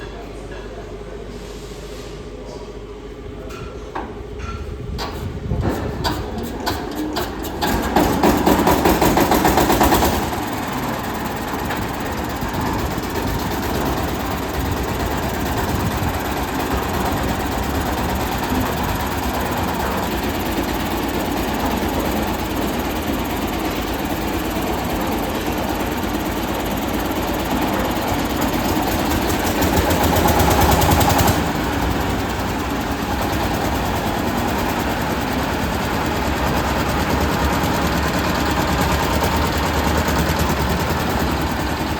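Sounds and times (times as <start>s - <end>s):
concrete mixer running: 5.4s - 41.9s.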